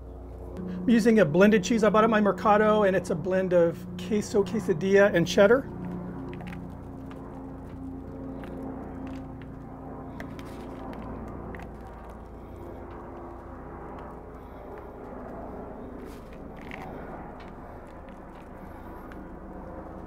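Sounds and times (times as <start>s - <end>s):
helicopter rumble: 0.0s - 20.0s.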